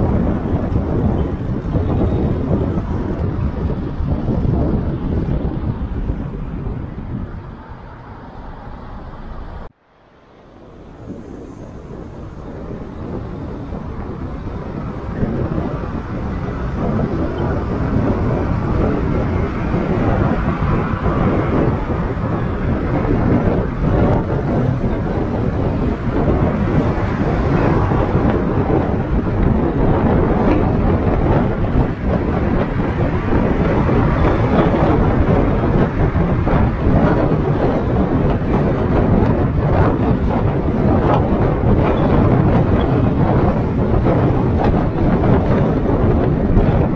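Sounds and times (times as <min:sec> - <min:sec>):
car driving tyre and wind noise: 0:00.0 - 0:46.9.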